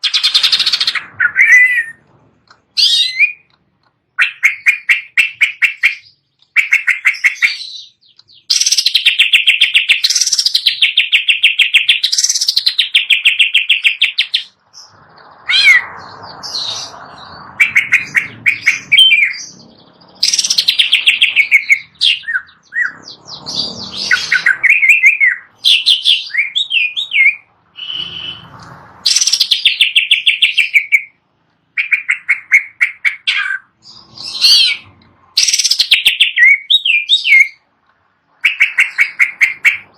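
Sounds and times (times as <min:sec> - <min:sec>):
bird singing trills and whistles: 0:00.0 - 0:31.2, 0:31.8 - 0:37.6, 0:38.4 - 0:39.9.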